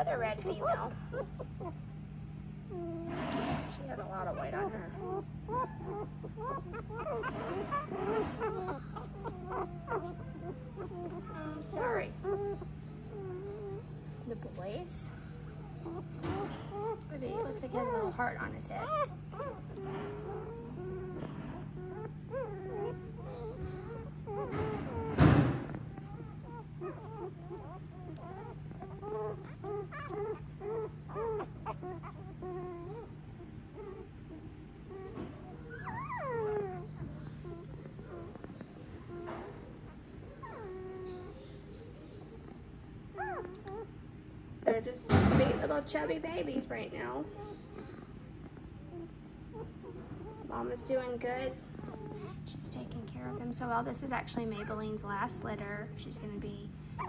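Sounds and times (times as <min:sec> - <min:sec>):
puppies whimpering and squeaking: 0:00.0 - 0:57.0.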